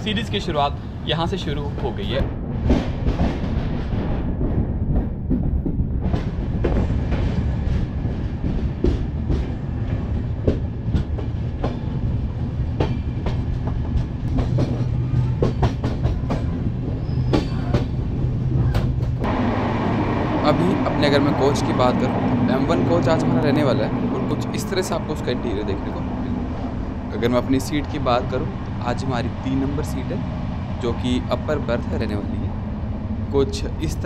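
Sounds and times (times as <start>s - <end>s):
train coach rumbling: 0.0s - 34.0s.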